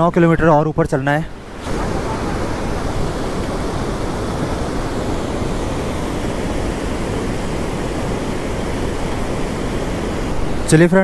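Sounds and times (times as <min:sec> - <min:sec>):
river water rushing: 0:01.2 - 0:10.9.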